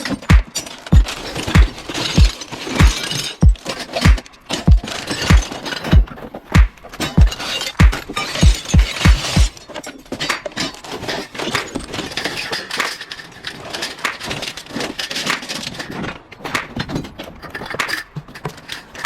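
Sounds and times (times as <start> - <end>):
scrap metal clanking and scraping: 0.0 - 19.0.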